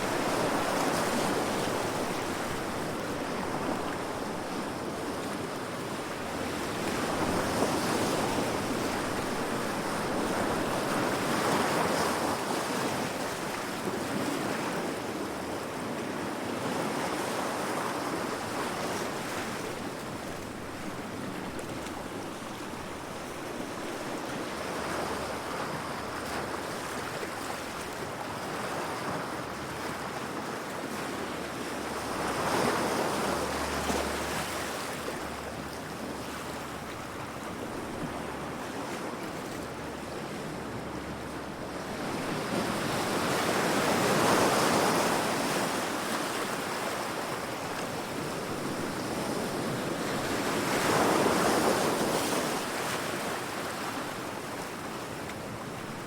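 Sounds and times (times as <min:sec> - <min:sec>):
ocean waves crashing against rocks: 0:00.0 - 0:56.0.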